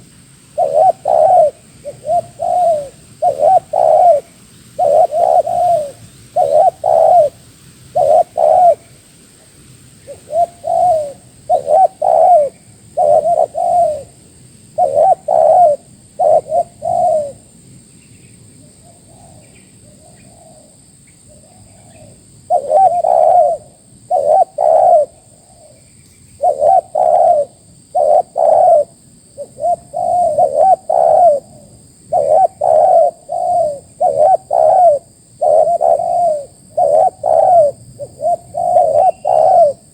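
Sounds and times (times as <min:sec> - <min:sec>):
dove cooing: 0:00.0 - 0:09.0, 0:10.0 - 0:17.5, 0:18.6 - 0:25.8, 0:26.4 - 0:39.9.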